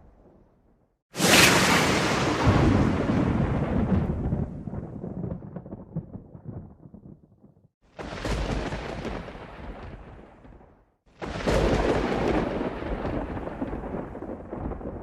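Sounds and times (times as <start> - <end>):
thunder rumbling: 0.0 - 15.0
loud thunderclap: 1.2 - 7.3, 8.0 - 15.0.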